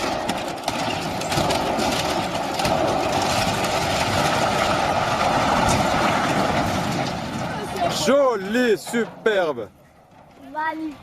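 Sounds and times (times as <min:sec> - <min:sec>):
heavy machine engine running: 0:00.0 - 0:10.9.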